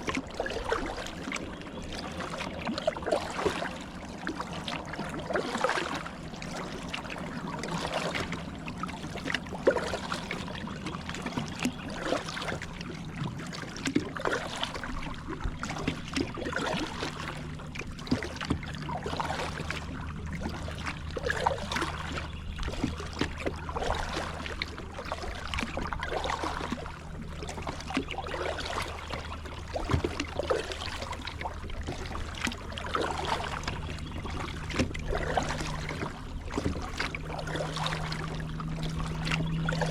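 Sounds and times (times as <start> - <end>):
paddle splashes: 0.0 - 39.9
water splashing and trickling: 0.0 - 39.9.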